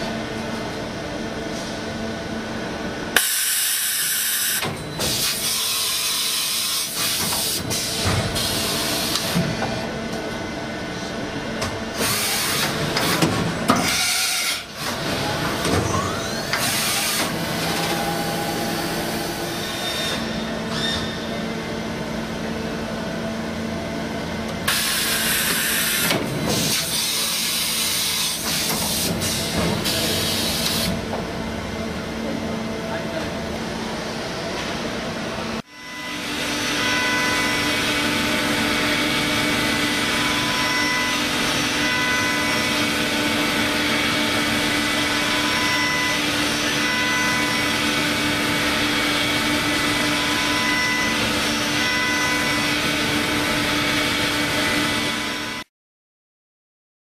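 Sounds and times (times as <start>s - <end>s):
machine motor hum and whine: 0.0s - 55.6s.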